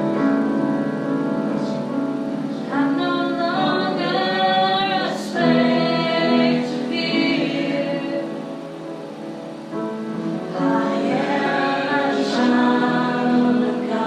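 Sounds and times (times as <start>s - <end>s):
worship music with singing: 0.0s - 14.0s.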